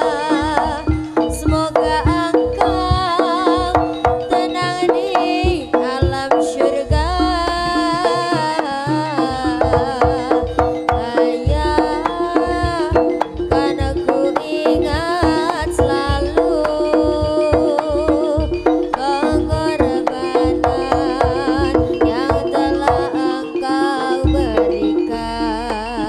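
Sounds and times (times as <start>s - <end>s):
hand drums: 0.0s - 26.0s
ringing tones: 0.0s - 26.0s
wavering melody line: 0.0s - 26.0s.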